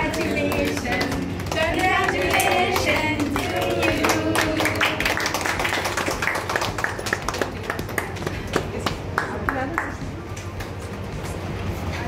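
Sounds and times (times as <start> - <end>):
people clapping: 0.0 - 10.8
music: 0.0 - 12.0.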